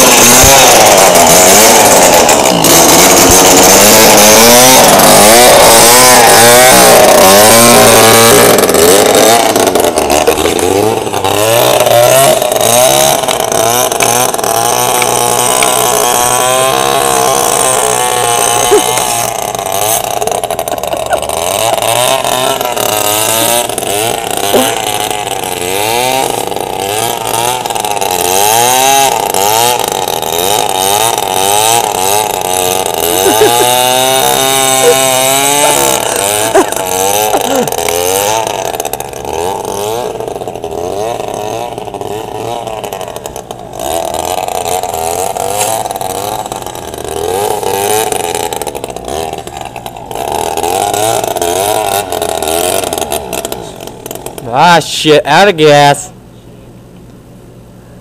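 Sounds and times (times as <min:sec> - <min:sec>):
string trimmer revving: 0:00.0 - 0:55.9.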